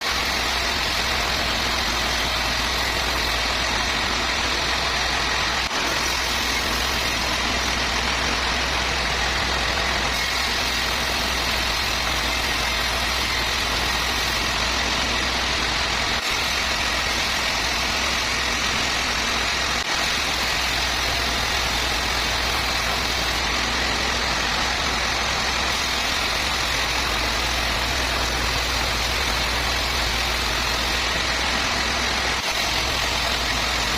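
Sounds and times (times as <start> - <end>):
sawmill machinery hum: 0.0 - 33.9.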